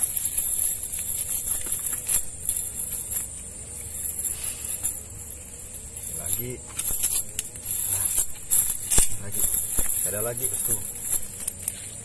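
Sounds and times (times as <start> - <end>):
chain sinkers clinking: 0.0 - 12.0
steady high hiss: 0.0 - 12.0.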